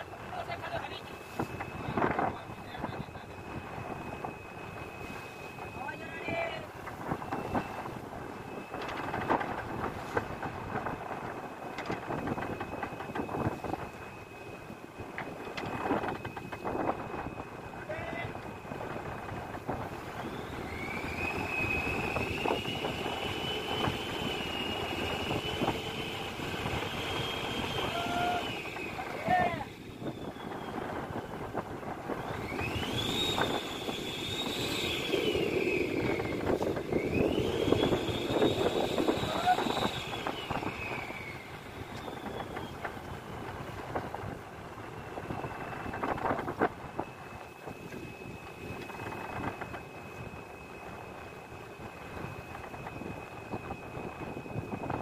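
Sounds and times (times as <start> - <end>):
high whine: 0.0 - 55.0
sea noise: 0.0 - 55.0
wind: 0.0 - 55.0.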